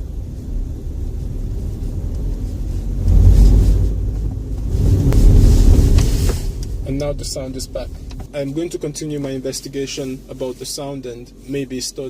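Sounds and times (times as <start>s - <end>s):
grinding noise from dashboard: 0.0s - 11.6s
car cabin rumble: 0.0s - 12.0s.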